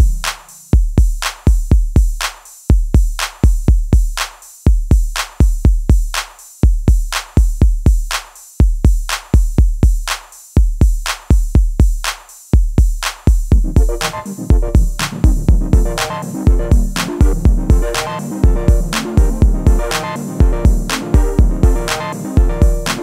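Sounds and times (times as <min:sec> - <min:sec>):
electronic drum machine beat: 0:00.0 - 0:23.0.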